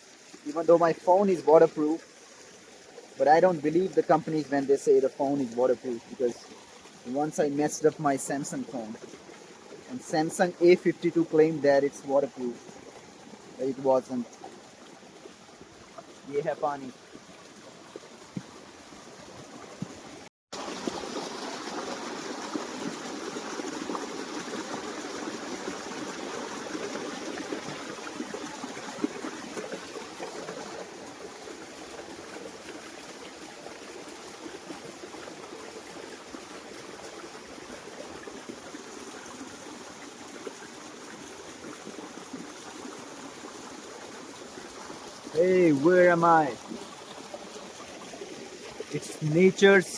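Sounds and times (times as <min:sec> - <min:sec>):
waterfall pouring into pool: 0:00.0 - 0:19.6, 0:20.5 - 0:49.9.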